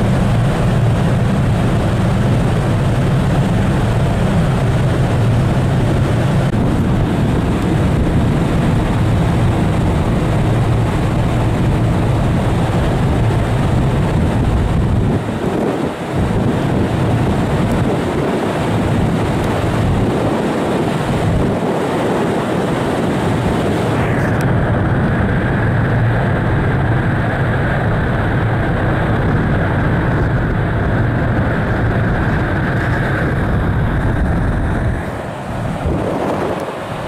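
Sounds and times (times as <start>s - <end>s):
ship engines rumbling: 0.0s - 37.0s
steady high whine: 0.0s - 37.0s.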